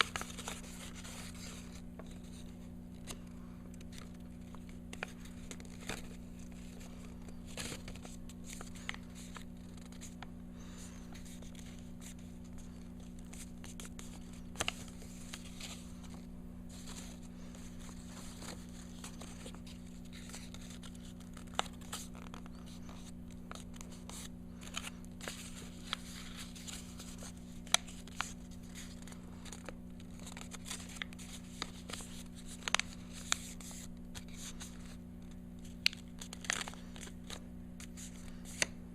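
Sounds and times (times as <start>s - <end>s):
paper being folded and creased: 0.0s - 3.2s, 3.8s - 38.8s
steady low hum: 0.0s - 38.9s.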